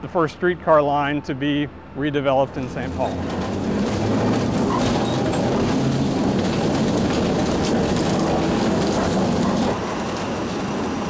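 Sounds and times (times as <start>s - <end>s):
streetcar wheels rumbling on rail: 2.1s - 11.0s.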